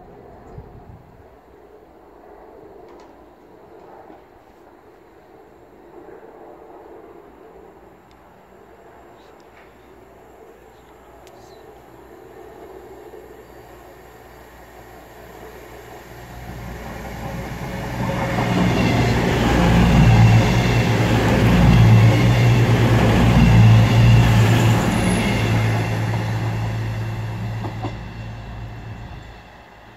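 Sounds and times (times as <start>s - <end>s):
train engine drone: 3.8s - 29.9s.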